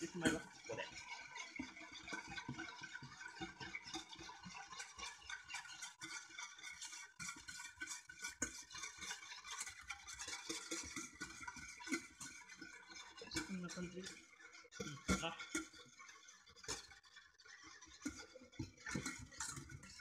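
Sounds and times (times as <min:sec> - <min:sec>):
whisk scraping metal saucepan: 0:00.0 - 0:20.0.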